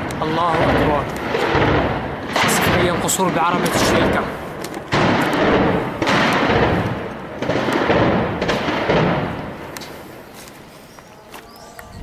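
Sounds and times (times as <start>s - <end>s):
heavy cannon fire and impacts: 0.0s - 10.3s.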